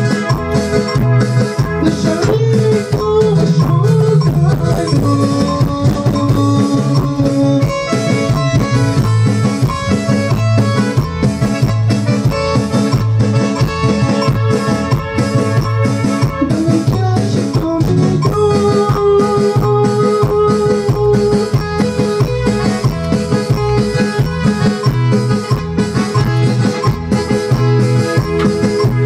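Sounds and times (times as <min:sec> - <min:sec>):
dance music with guitar and drums: 0:00.0 - 0:29.0.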